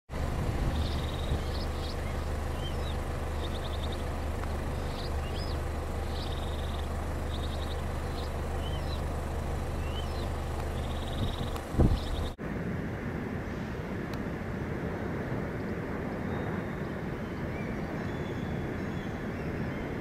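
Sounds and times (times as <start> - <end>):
low rumble: 0.1 - 16.2
songbird chirping and trilling: 0.2 - 12.4, 16.1 - 20.0.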